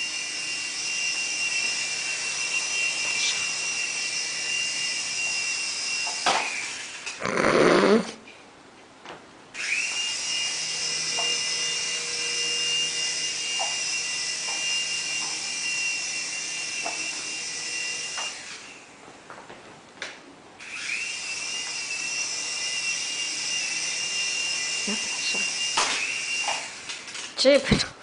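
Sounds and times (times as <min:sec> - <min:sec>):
toy helicopter motor whining: 0:00.0 - 0:08.0, 0:09.6 - 0:19.0, 0:20.6 - 0:27.5.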